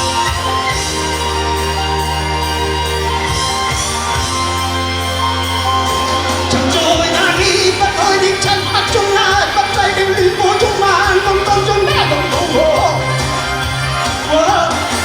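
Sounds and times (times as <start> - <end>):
live band playing pop-rock: 0.0 - 15.0
person singing with vibrato: 0.0 - 15.0.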